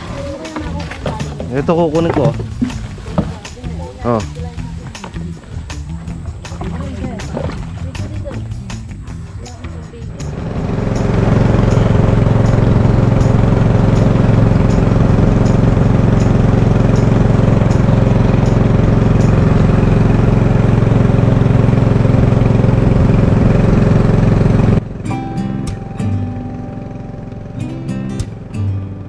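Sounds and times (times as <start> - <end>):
small engine droning: 0.0 - 29.0.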